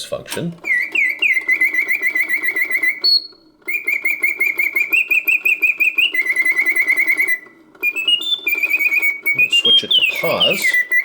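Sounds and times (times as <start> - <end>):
mechanism whirring: 0.0 - 11.0
mechanical bird whistle trilling: 0.6 - 11.0.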